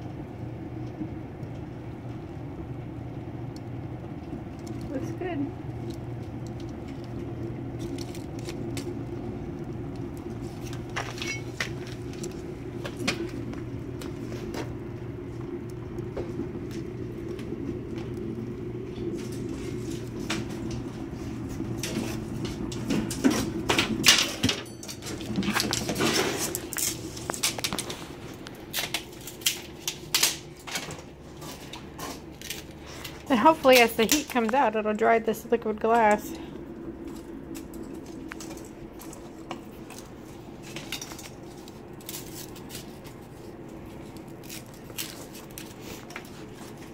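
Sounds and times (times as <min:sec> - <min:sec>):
kindling crackling and snapping: 0:00.0 - 0:46.9
steady low hum: 0:00.0 - 0:46.9.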